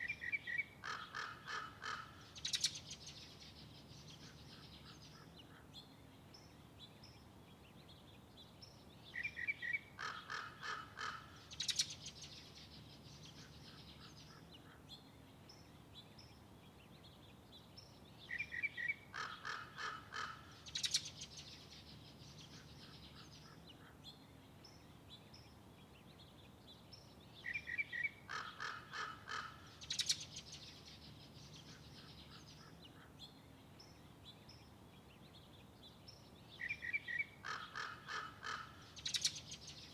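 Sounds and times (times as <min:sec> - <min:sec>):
faint bird chirps: 0:00.0 - 0:39.9
songbird singing: 0:00.0 - 0:39.9.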